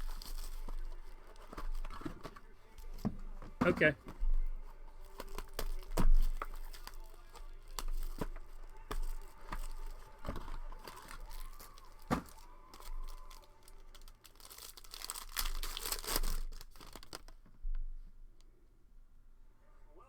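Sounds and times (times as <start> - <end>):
plastic wrapping tearing and crinkling: 0.0 - 17.6.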